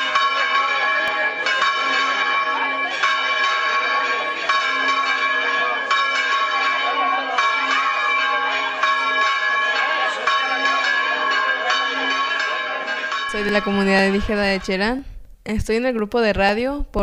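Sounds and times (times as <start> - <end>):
bells ringing: 0.0 - 15.0.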